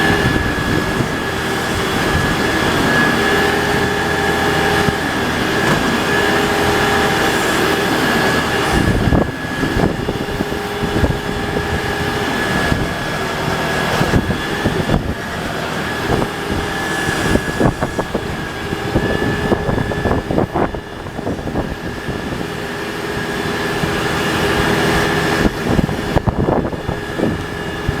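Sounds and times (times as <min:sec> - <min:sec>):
backhoe engine whining: 0:00.0 - 0:28.0.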